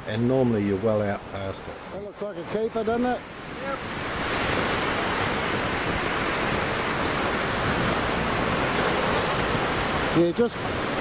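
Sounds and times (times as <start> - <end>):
surf waves breaking on sand: 0.0 - 11.0.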